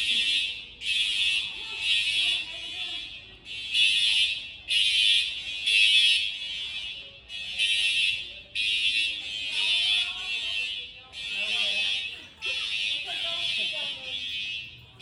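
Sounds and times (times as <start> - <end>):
fire alarm horn blasts: 0.0 - 15.0.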